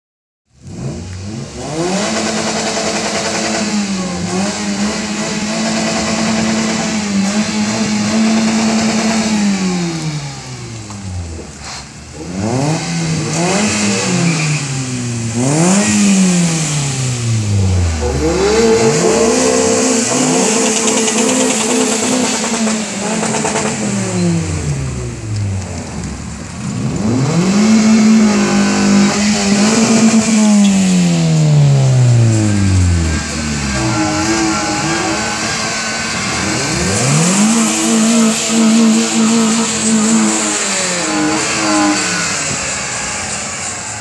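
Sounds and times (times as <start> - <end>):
car engines revving: 0.5 - 44.0.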